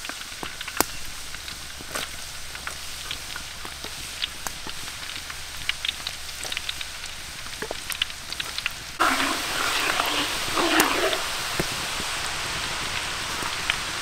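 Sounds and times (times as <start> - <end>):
fish sizzling in hot oil: 0.0 - 14.0
ladle stirring bubbling oil: 0.1 - 14.0.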